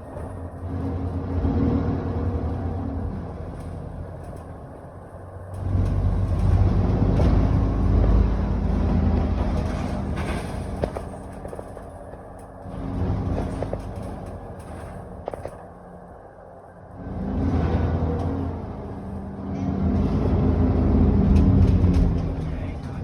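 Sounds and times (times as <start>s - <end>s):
bus diesel engine droning: 0.0s - 23.0s
bus rattles and knocks: 0.0s - 23.0s.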